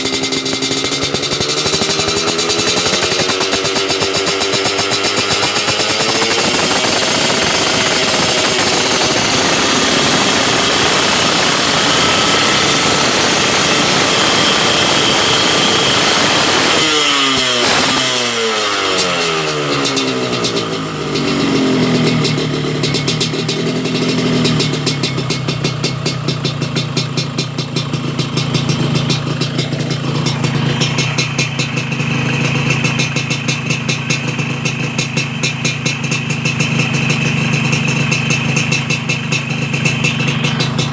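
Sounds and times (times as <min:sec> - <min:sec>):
engine pulsing idle: 0:00.0 - 0:40.9
motorcycle engine at high revs: 0:00.0 - 0:40.9.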